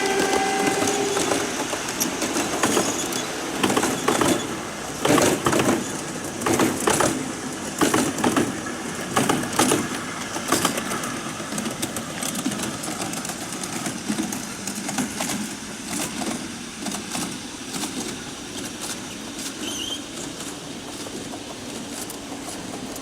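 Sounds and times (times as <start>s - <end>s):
model train wheels clicking: 0.0s - 23.0s.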